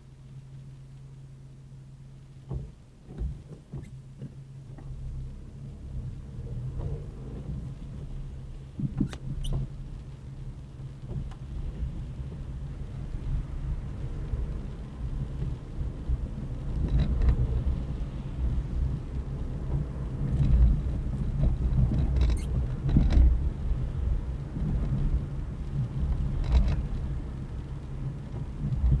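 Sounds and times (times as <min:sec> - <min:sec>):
car engine rumble: 0:00.0 - 0:29.0
tyres on wet road: 0:02.2 - 0:29.0.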